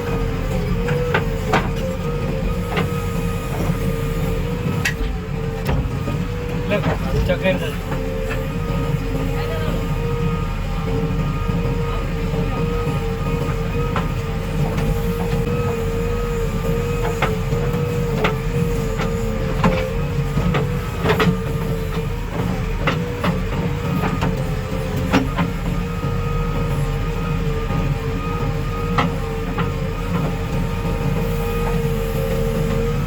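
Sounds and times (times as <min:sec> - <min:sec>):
diesel machinery rumbling: 0:00.0 - 0:33.0.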